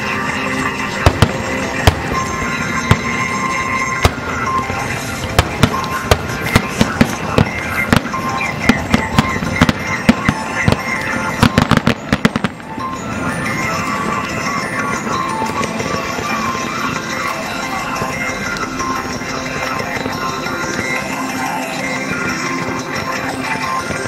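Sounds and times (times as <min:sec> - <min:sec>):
background music: 0:00.0 - 0:24.0
fireworks bursting with sharp bangs: 0:00.0 - 0:24.0.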